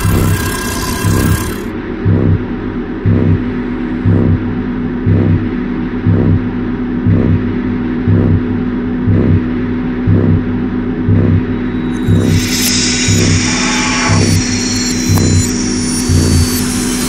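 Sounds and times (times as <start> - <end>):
deep bass pulse: 0.0 - 17.0
sustained low drone: 0.0 - 17.0.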